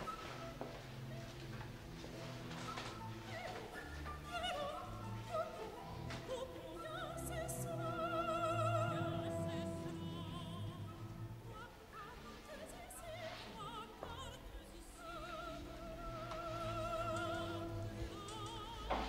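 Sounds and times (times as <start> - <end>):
orchestra: 0.0 - 19.0
high operatic singing voice: 2.7 - 19.0.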